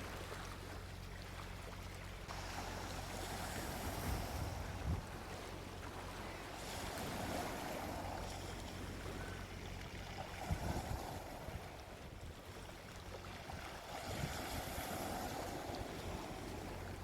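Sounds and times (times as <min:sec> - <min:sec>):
ocean waves washing on beach: 0:00.0 - 0:17.0.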